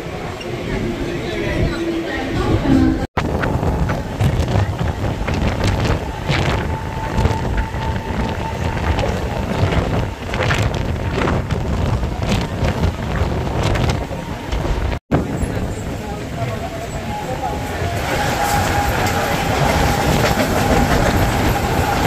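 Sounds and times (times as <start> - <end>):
train rumbling on track: 0.0 - 22.0
wind buffeting microphone: 0.0 - 22.0.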